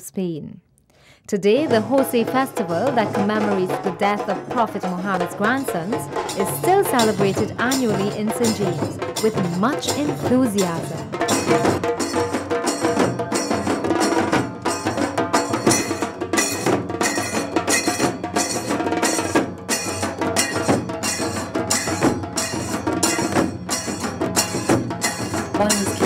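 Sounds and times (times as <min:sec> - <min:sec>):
tassa drum band playing: 0:01.5 - 0:26.0.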